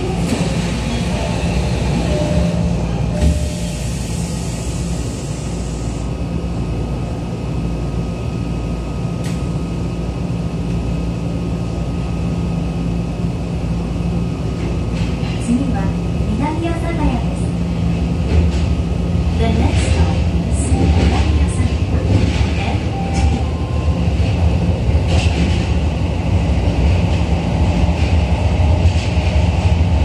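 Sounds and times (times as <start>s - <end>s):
subway car interior hum: 0.0s - 30.0s.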